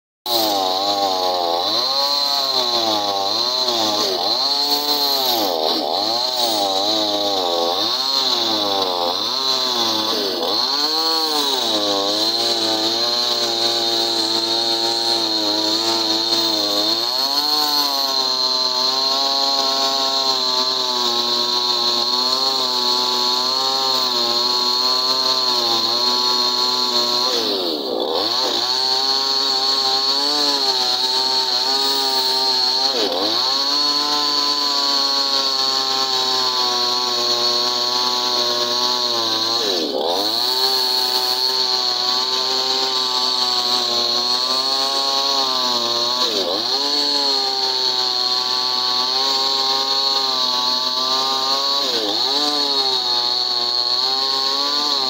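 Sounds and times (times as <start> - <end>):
chainsaw cutting under load: 0.3 - 55.0.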